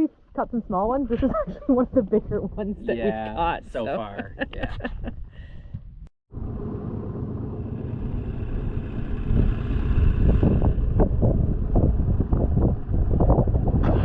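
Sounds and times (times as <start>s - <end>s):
wind buffeting microphone: 0.5s - 6.1s, 7.9s - 14.0s.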